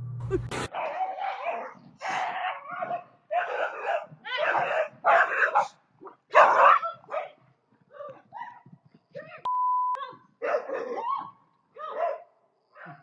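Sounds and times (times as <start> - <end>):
dog barking: 0.5 - 8.7, 10.0 - 13.0.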